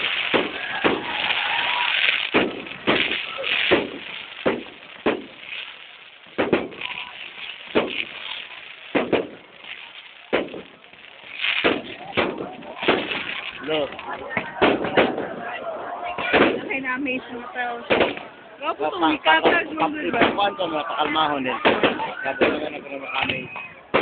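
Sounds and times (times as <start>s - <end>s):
fireworks bangs: 0.0s - 24.0s
fireworks hissing crackle: 0.0s - 24.0s.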